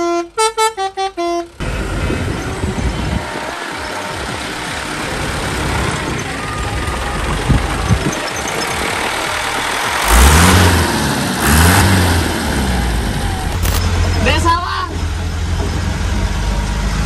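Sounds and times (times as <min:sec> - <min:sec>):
diesel truck engine idling and revving: 0:00.0 - 0:17.0.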